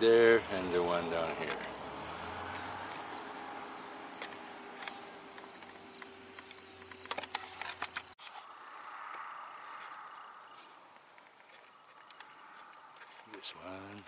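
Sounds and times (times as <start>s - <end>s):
cricket chirping trill: 0.0s - 14.0s.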